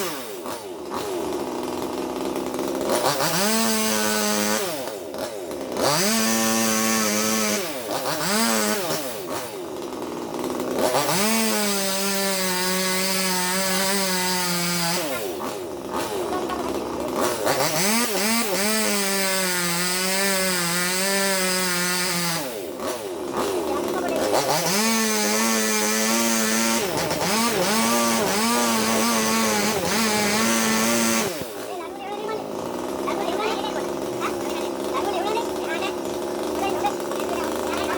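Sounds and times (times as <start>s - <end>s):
chainsaw revving and cutting: 0.0s - 37.9s.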